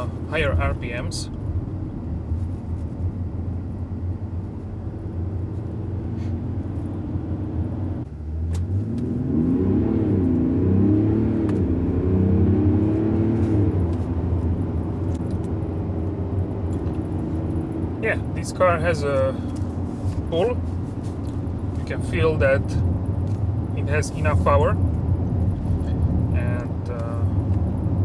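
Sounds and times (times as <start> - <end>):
diesel engine revving: 0.0 - 28.0.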